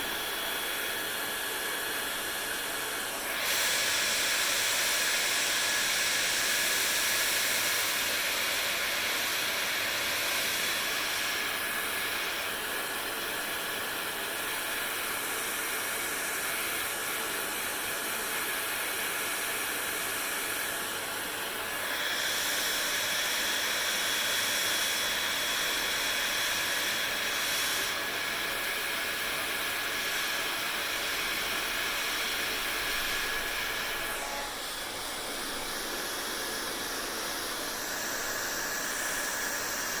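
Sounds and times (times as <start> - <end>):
hair dryer running: 0.0 - 40.0.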